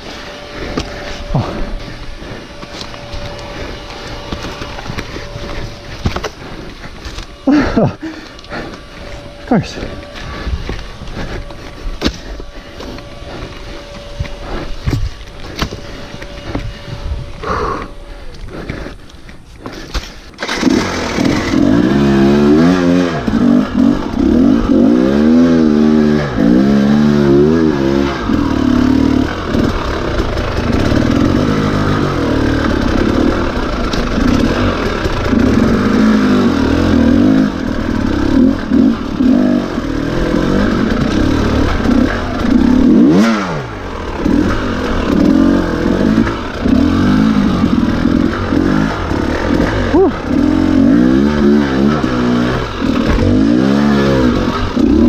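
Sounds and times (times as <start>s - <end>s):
dirt bike engine revving: 0.0s - 19.0s, 19.6s - 55.0s.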